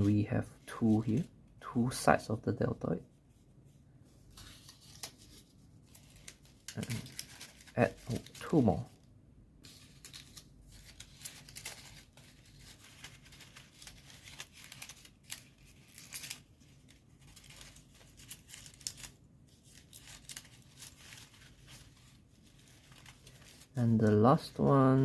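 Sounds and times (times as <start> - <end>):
paper rustling and crinkling: 0.0 - 1.9, 3.1 - 25.0.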